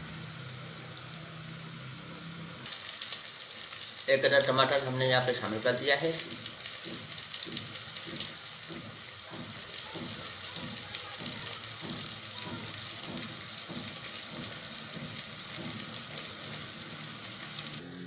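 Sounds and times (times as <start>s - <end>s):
vegetables sizzling in oil: 0.0s - 18.0s
wooden spoon stirring: 2.7s - 17.8s.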